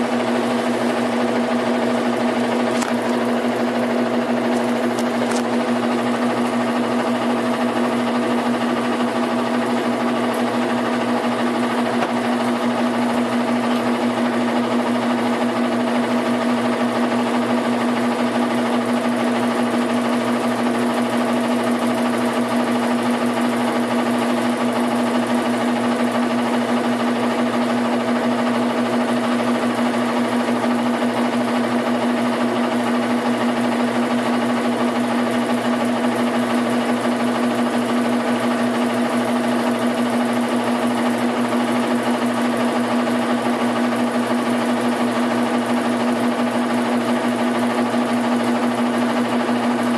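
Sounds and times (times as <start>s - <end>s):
washing machine rattling: 0.0s - 49.9s.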